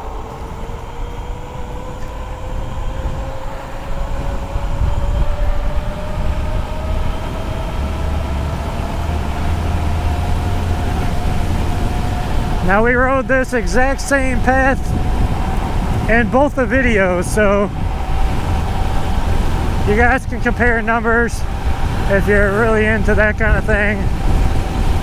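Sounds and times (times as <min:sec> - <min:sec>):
electric motor whining: 0:00.0 - 0:25.0
wind and road noise: 0:00.0 - 0:25.0.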